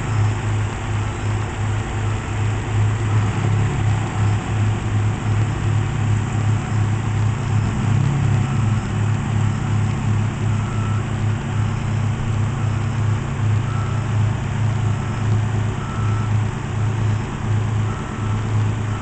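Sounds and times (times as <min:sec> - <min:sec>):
diesel engine running at low speed: 0:00.0 - 0:19.0.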